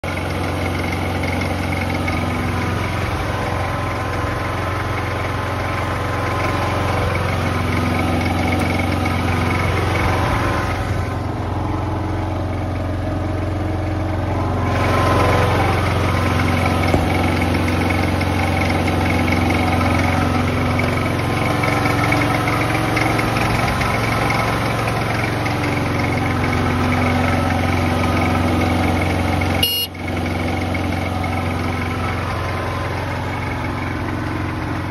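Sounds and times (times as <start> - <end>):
rice transplanter engine idling: 0.0 - 34.9.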